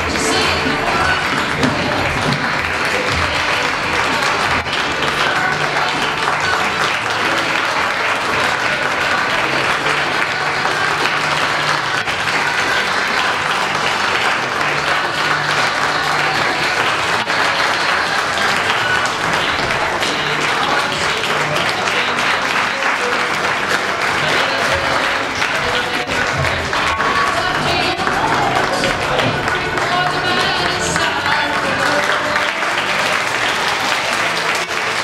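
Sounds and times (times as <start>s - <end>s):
audience applauding: 0.0s - 35.0s
music playing: 0.0s - 35.0s.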